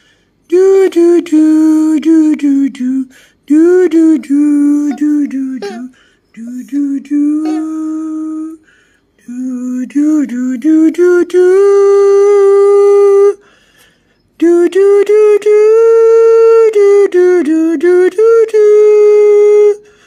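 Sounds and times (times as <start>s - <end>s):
person singing a wordless lullaby: 0.0s - 20.0s.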